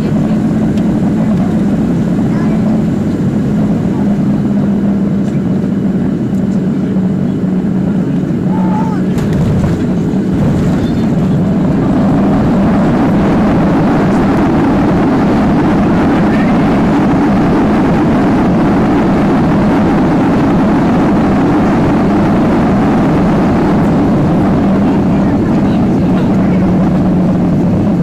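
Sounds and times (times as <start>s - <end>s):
jet engines in reverse thrust: 0.0s - 28.0s
runway noise: 0.0s - 28.0s.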